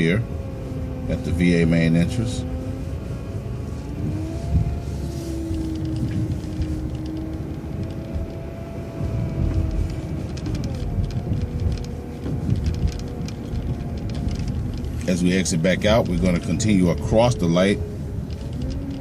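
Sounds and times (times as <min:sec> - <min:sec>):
bus engine rumbling and whining: 0:00.0 - 0:19.0.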